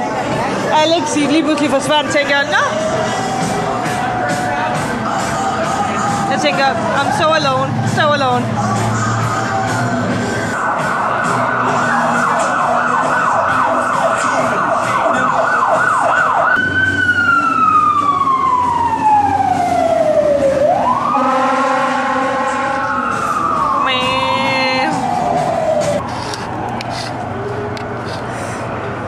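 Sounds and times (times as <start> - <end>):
emergency siren yelping and wailing: 1.3 - 29.0.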